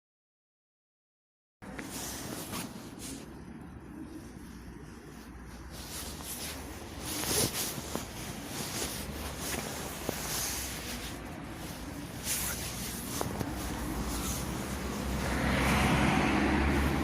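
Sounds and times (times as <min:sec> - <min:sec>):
hissing rustling noise: 0:01.7 - 0:17.0.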